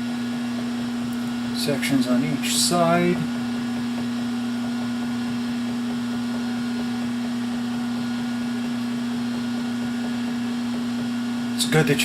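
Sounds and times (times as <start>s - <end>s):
lathe motor hum: 0.0s - 12.0s.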